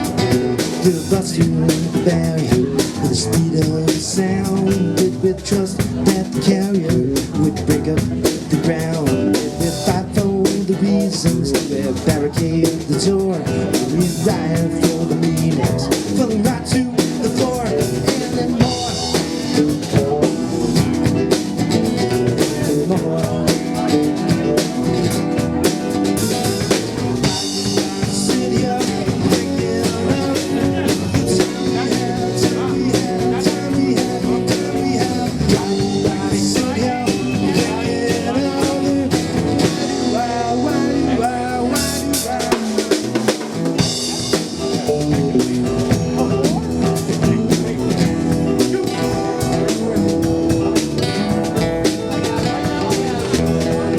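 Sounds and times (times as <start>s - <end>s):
rock band playing instrumental: 0.0s - 53.9s.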